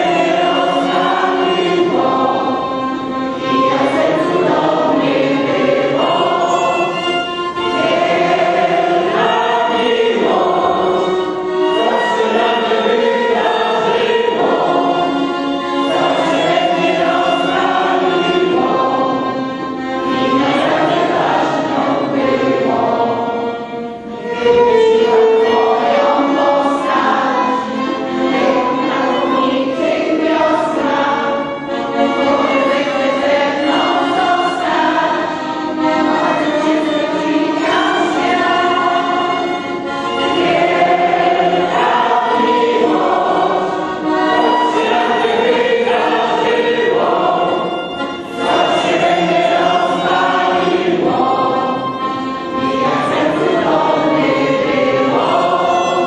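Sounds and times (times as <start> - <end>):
mixed choir singing: 0.0 - 56.0.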